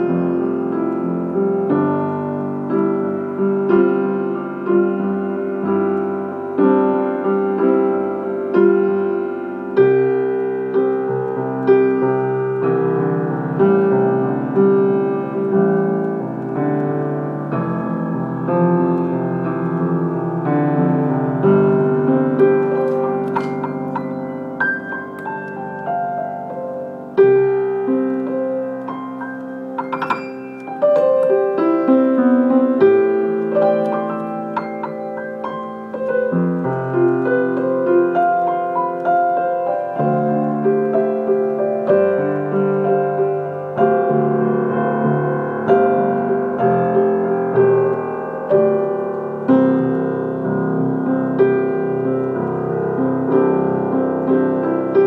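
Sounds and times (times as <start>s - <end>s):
solo piano chords and melody: 0.0s - 55.0s.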